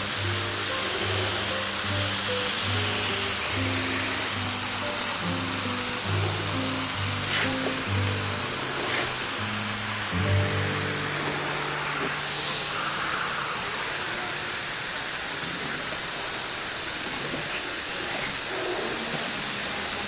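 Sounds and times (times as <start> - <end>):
spray gun hissing: 0.0 - 20.0.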